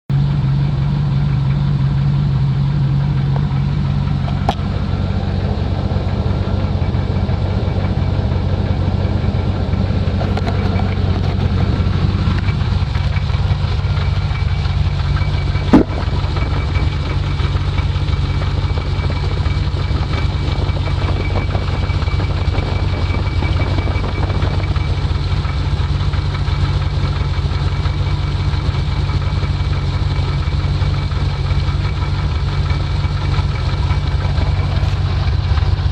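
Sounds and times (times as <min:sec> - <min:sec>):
engine idling with clacking: 0:00.1 - 0:35.9.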